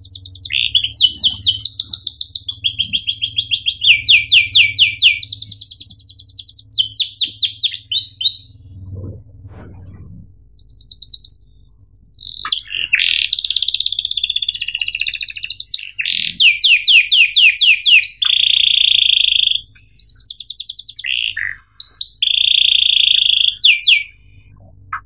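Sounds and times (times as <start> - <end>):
canary singing: 0.0 - 25.0.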